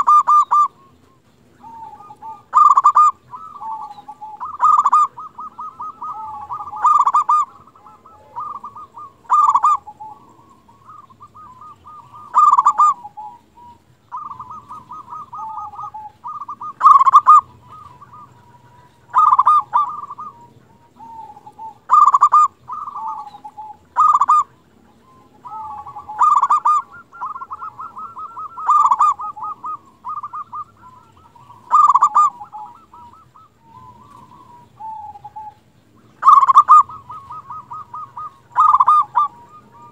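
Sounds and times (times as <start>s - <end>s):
dove cooing: 0.0s - 39.9s
soft trilled cooing: 0.0s - 39.9s.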